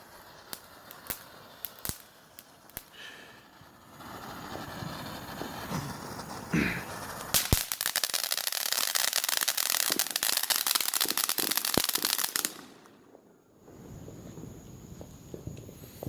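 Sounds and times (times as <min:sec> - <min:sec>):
firework bangs: 0:00.0 - 0:16.0
firework crackling: 0:00.0 - 0:16.0.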